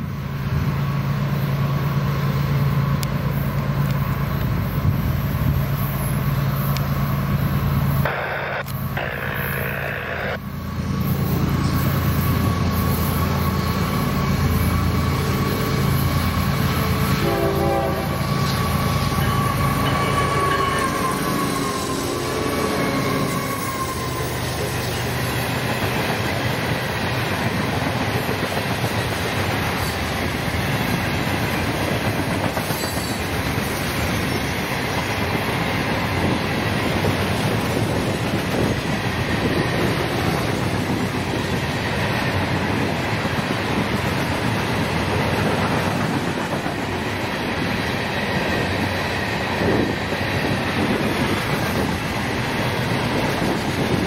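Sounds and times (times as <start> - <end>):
train rolling past on rails: 0.0 - 54.0.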